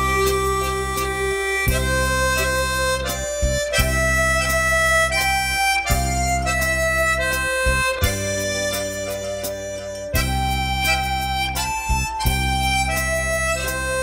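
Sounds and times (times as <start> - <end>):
slow melody of held notes: 0.0 - 14.0
sustained low accompaniment: 0.0 - 14.0.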